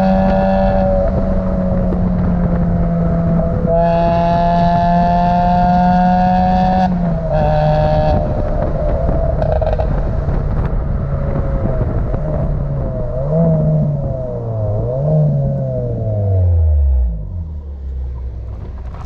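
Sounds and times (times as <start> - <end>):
car engines: 0.0 - 19.0
heavy wind: 0.0 - 19.0
road rumble: 0.0 - 19.0.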